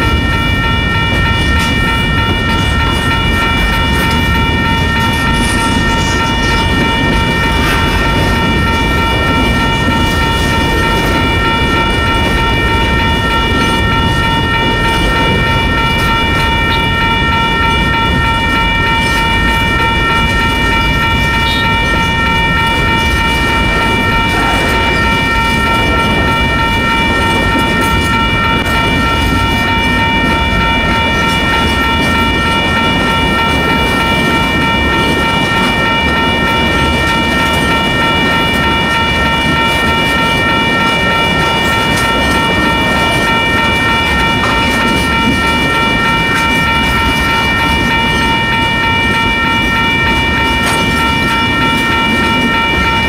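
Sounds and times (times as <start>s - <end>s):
high-pitched whine: 0.0s - 53.0s
train wheels rumbling on rail: 0.0s - 53.0s.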